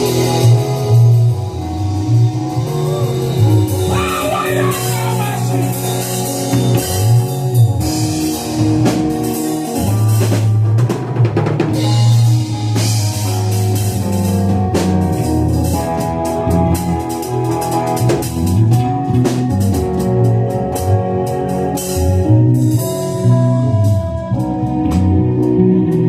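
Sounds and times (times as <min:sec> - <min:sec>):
bass line low notes: 0:00.0 - 0:26.0
drum kit: 0:00.0 - 0:26.0
gospel band music: 0:00.0 - 0:26.0.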